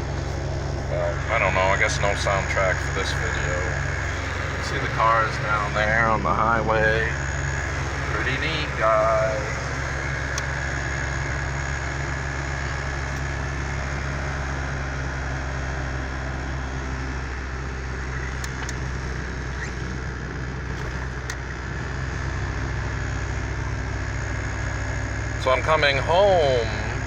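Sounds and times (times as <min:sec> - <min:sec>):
car engine drone: 0:00.0 - 0:27.0
road noise: 0:00.0 - 0:27.0.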